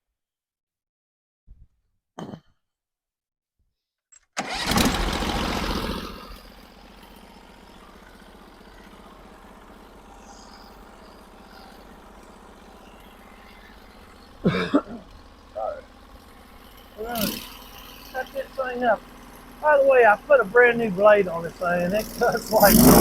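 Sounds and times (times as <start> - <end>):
gasoline engine starting and idling: 4.4 - 23.0.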